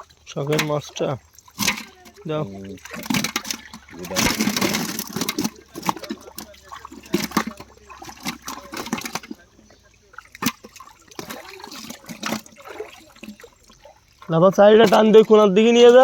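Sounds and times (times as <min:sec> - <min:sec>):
water splashing from thrashing fish: 0:00.0 - 0:16.0.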